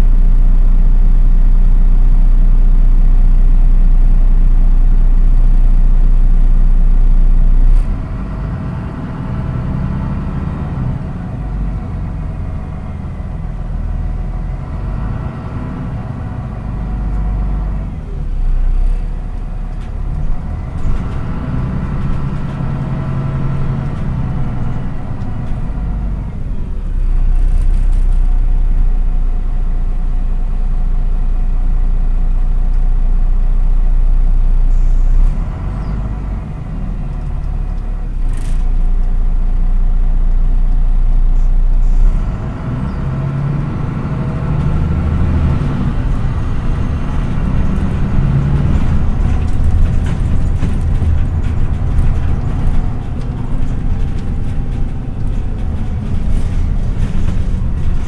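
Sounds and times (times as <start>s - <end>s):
bus diesel engine running: 0.0s - 58.0s
road rumble: 0.0s - 58.0s.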